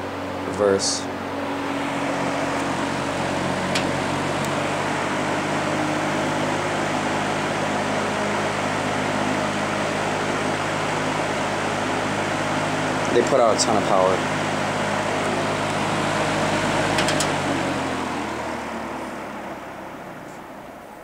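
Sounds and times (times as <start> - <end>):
fan air rushing: 0.0 - 21.0
fan motor hum: 0.0 - 21.0.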